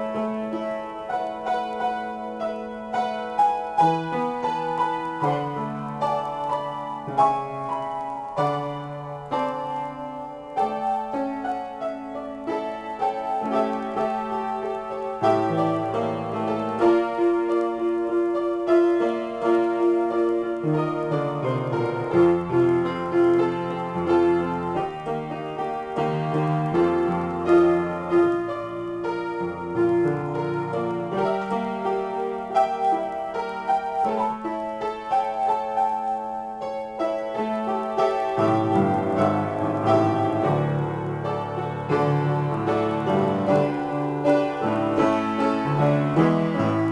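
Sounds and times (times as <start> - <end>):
solo piano: 0.0 - 46.9.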